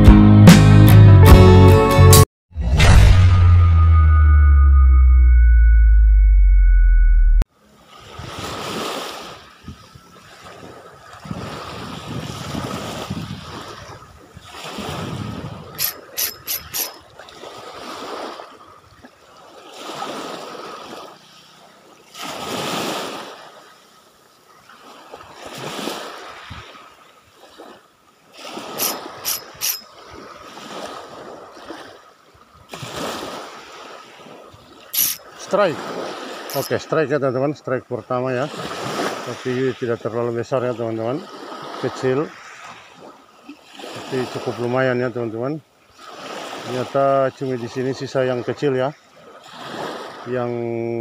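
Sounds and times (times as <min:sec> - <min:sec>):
waves washing on sandy beach: 0:07.6 - 0:51.0.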